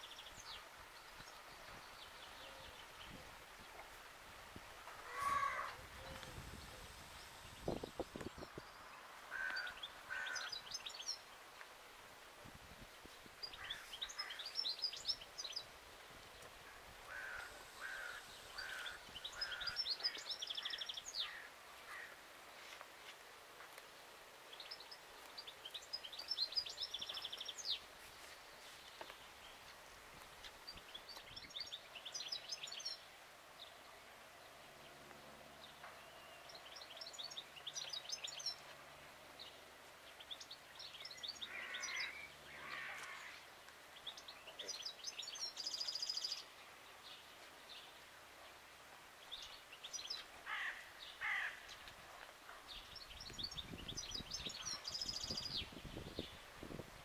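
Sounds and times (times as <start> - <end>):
songbird chirping: 0.0 - 56.8
faint outdoor background noise: 0.0 - 57.0.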